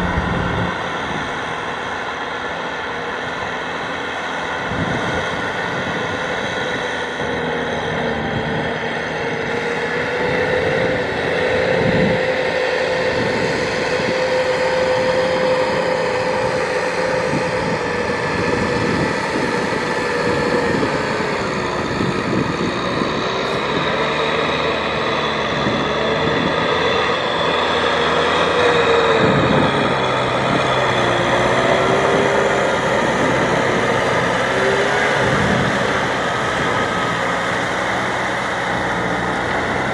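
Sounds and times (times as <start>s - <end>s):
tractor diesel engine under load: 0.0s - 39.9s
rotavator churning through mud: 5.5s - 39.9s.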